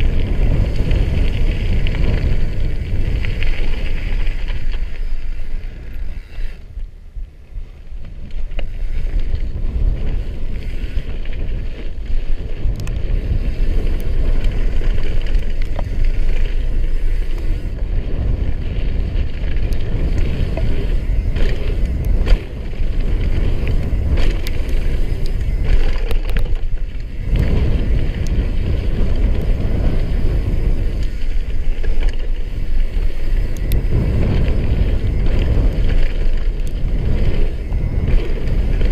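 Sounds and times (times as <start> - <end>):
bike tyres on gravel: 0.0 - 38.9
stones and bike rattling: 0.0 - 38.9
wind rushing over microphone: 0.0 - 38.9.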